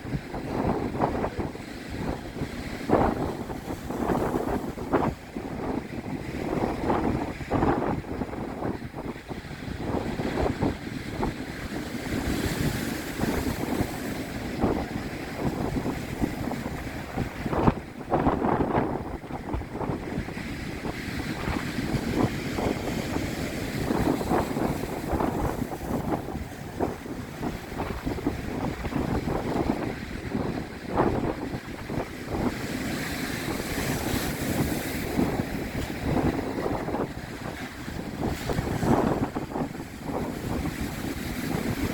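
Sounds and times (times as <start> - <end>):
sea waves breaking on shore: 0.0 - 41.9
wind buffeting microphone: 0.0 - 41.9.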